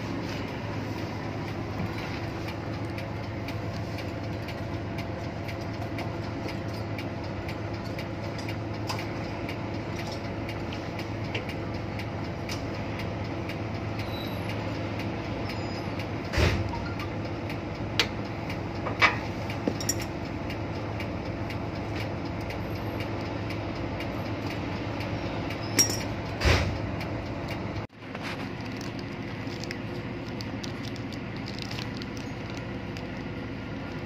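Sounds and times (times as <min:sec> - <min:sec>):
low machinery hum: 0:00.0 - 0:34.0.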